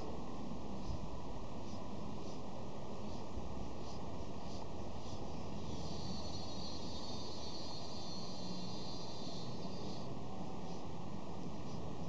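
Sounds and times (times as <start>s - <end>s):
outdoor ambient hiss and rumble: 0.0s - 12.0s
faint high-pitched pulses: 1.6s - 12.0s.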